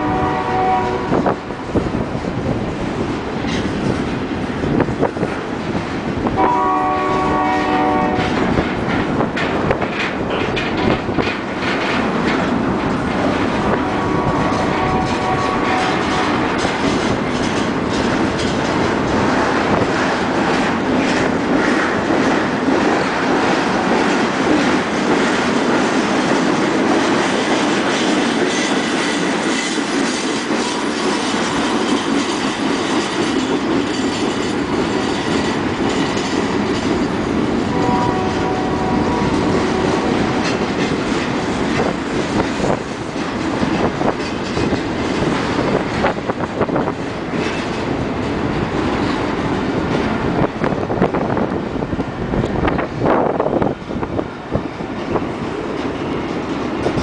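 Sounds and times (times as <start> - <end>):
freight train wheels rattling on rails: 0.0 - 57.0.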